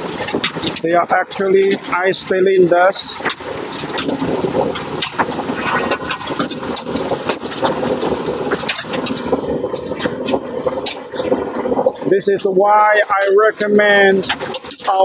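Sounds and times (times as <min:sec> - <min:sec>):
ice cylinders clattering: 0:00.0 - 0:15.0
ice machine mechanical noise: 0:00.0 - 0:15.0.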